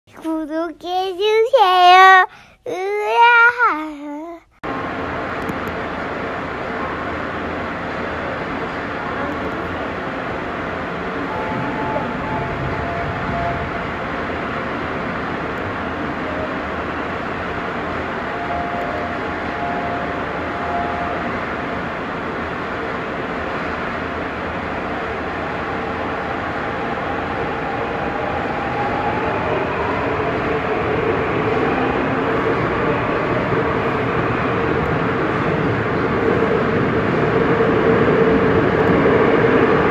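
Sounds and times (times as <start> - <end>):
electric train running: 4.7 - 39.9.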